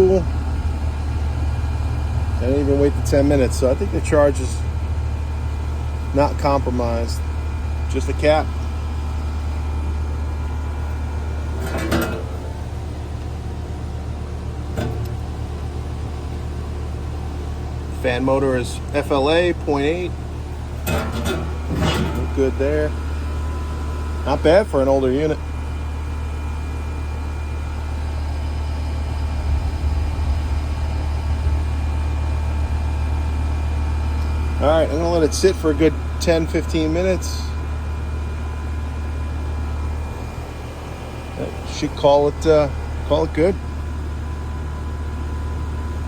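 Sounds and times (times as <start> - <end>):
air conditioner unit humming: 0.0 - 46.0.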